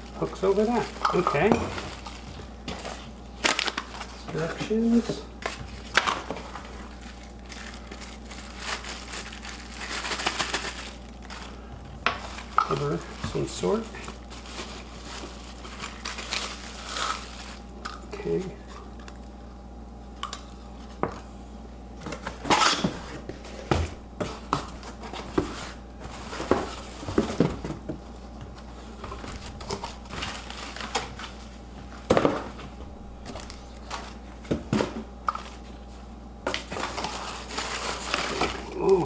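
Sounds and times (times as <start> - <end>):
plastic wrap rustling: 0.0 - 18.5, 24.4 - 34.4, 35.4 - 39.0.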